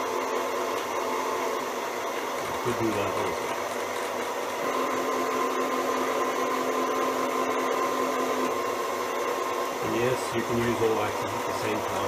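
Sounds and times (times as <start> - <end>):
milling machine running: 0.0 - 12.0.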